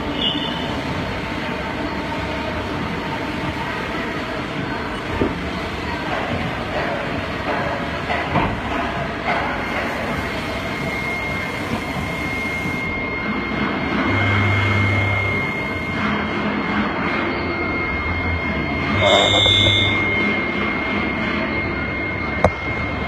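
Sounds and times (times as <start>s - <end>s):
lathe machining whine: 0.0s - 23.0s.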